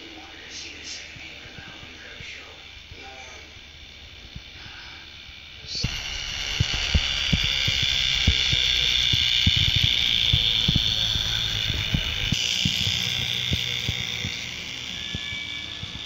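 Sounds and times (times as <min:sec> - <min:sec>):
model train motor whine: 0:00.0 - 0:16.0.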